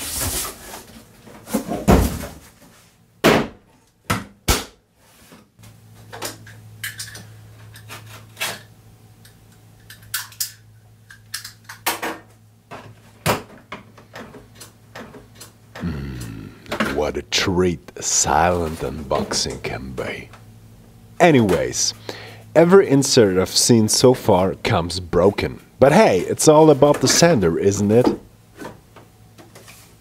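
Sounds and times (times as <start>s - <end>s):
low steady hum: 5.6s - 30.0s.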